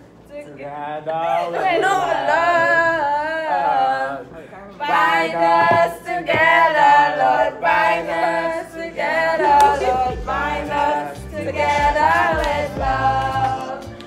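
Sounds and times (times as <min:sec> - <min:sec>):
group singing a cappella: 0:01.5 - 0:14.0.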